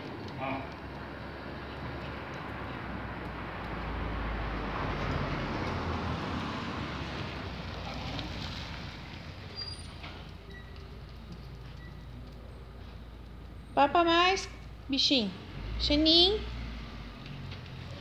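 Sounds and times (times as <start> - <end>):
car passing: 0.0 - 18.0.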